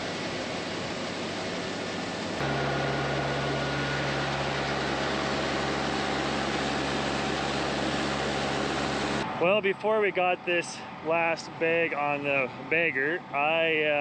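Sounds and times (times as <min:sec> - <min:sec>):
low hum: 0:00.0 - 0:13.4
tractor engine running: 0:00.0 - 0:14.0.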